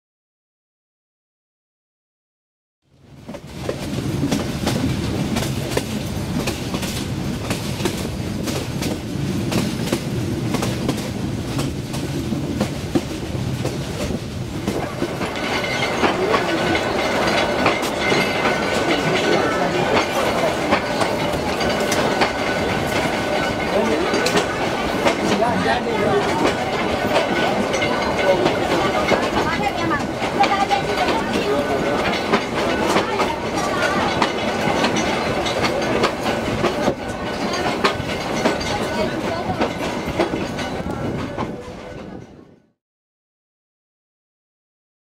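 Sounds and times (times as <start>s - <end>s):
train rumbling: 2.9s - 42.8s
wheels clicking over rail joints: 3.3s - 42.4s.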